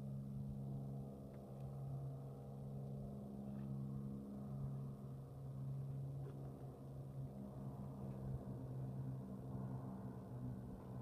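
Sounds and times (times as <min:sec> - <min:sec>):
propeller plane flying overhead: 0:00.0 - 0:11.0.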